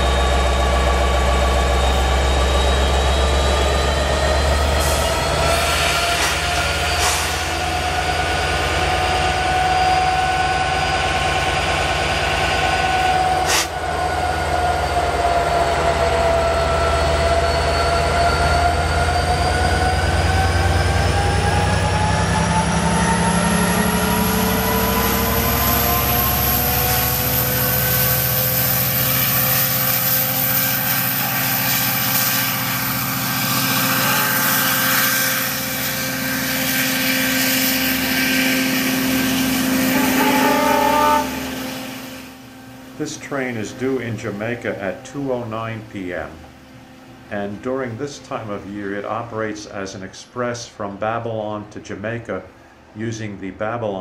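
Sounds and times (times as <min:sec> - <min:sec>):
train rolling past: 0:00.0 - 0:50.6
diesel locomotive engine: 0:00.0 - 0:54.0.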